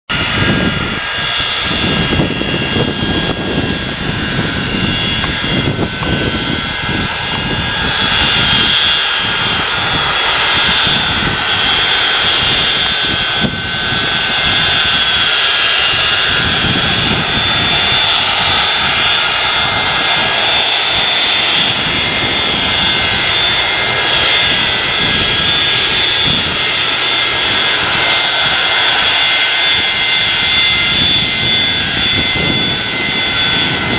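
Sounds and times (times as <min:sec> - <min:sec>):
jet engines whining: 0:00.1 - 0:33.9
rush of engine noise: 0:00.1 - 0:33.9.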